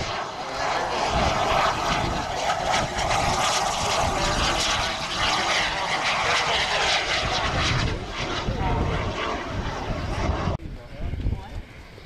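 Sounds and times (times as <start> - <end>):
model jet engines rushing: 0.0 - 12.0.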